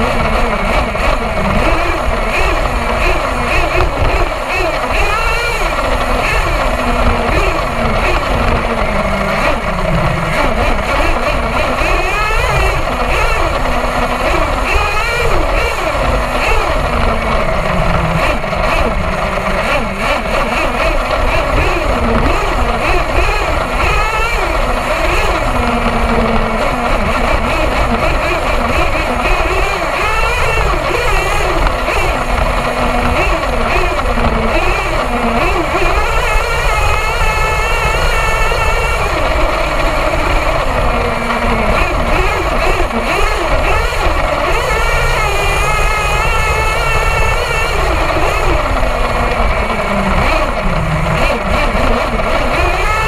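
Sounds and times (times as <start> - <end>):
toy truck engine revving: 0.0 - 53.0.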